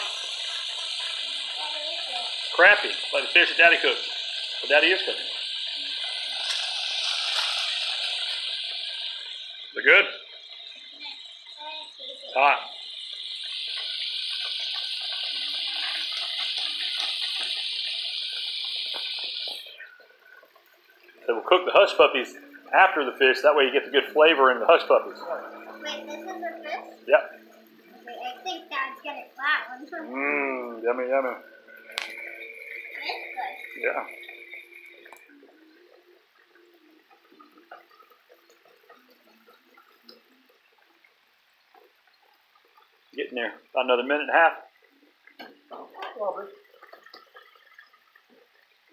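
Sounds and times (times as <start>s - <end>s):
fish deep-frying in hot oil: 0.0s - 48.9s.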